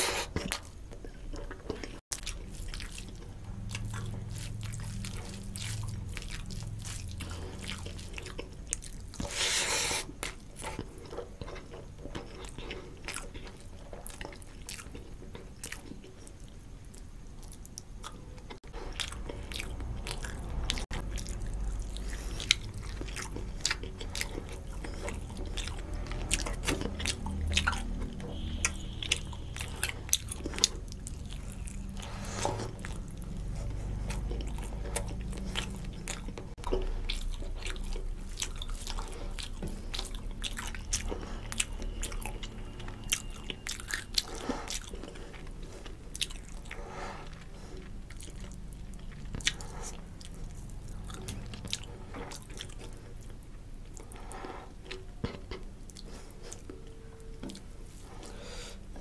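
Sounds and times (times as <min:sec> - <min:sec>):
man chewing and mouth sounds: 0:00.0 - 0:59.0.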